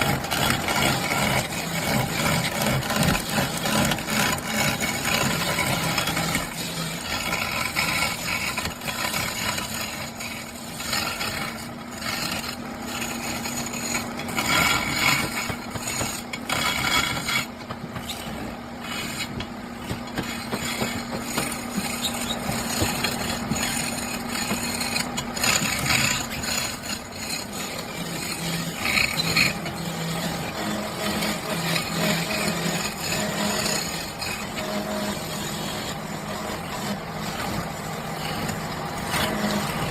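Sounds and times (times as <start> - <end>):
lathe motor hum: 0.0 - 39.9
turning tool scraping wood: 0.0 - 39.9.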